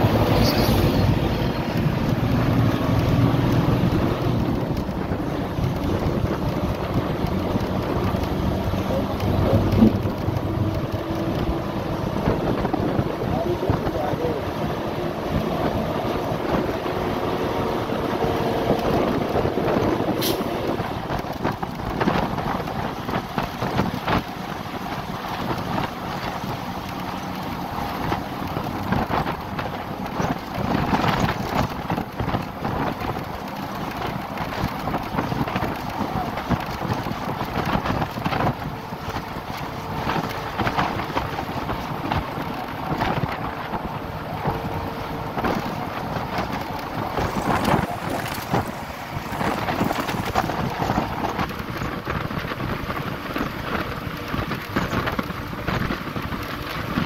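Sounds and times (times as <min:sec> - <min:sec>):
road and engine rumble: 0:00.0 - 0:57.0
wind buffeting microphone: 0:00.0 - 0:57.0.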